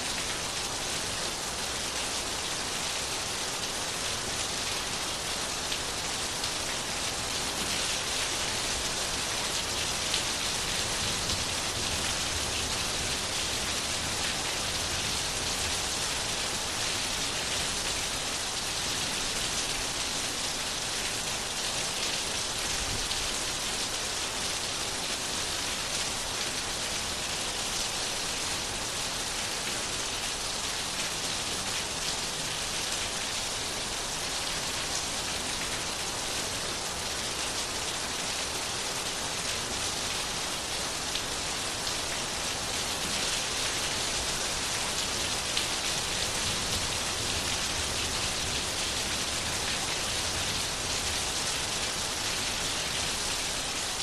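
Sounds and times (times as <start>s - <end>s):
rain hissing on a surface: 0.0s - 54.0s.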